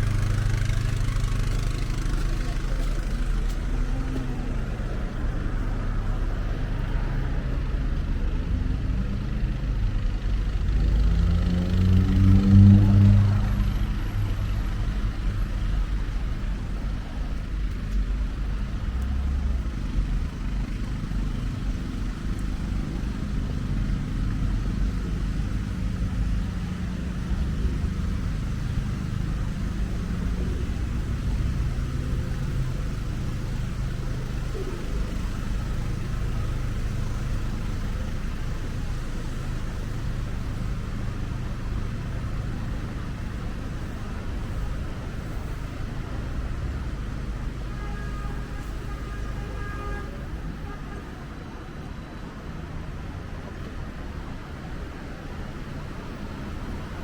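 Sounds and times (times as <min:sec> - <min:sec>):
traffic engine rumble: 0:00.0 - 0:57.0
vehicle passing close: 0:00.0 - 0:57.0.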